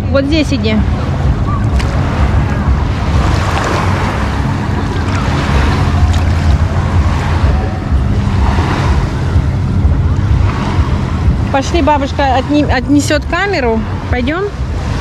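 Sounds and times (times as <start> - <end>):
faint voices: 0.0 - 14.8
wind rumbling on microphone: 0.0 - 15.0
small waves washing onto beach: 0.2 - 15.0.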